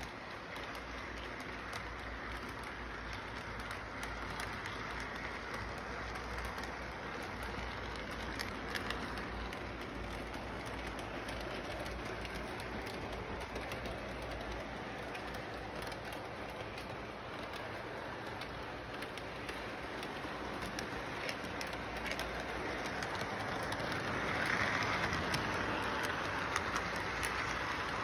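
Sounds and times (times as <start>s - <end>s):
faint clicks: 0.0s - 28.0s
train rumbling: 0.0s - 28.0s.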